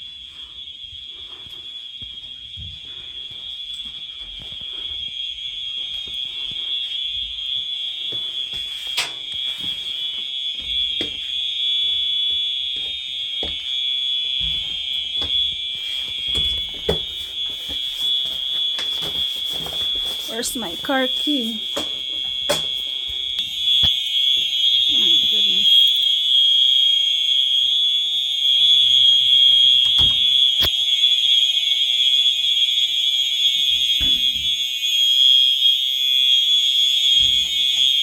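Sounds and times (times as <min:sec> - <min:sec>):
fire alarm high-pitched tone: 0:00.0 - 0:38.0.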